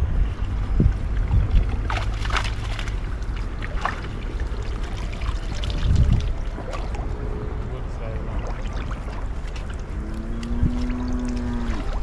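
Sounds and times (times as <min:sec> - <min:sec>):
wind rumbling on microphone: 0:00.0 - 0:12.0
pond water splashing: 0:01.0 - 0:12.0.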